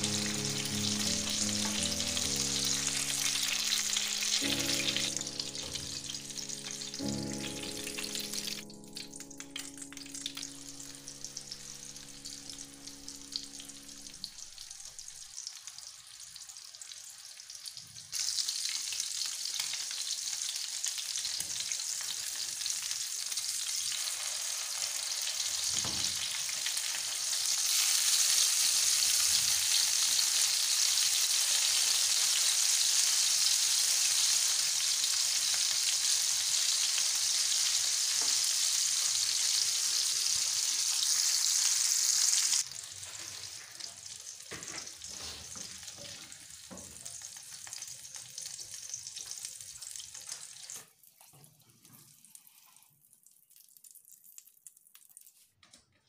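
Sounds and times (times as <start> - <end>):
meat sizzling in hot oil: 0.0 - 51.2.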